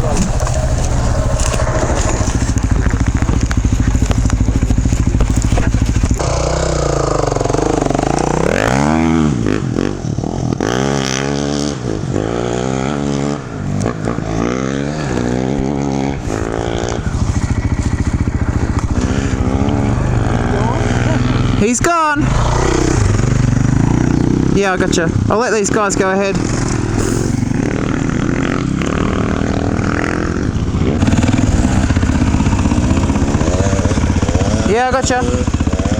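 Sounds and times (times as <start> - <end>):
dirt bike engine idling: 0.0 - 35.9
trail bikes revving and pulling away: 0.0 - 35.9.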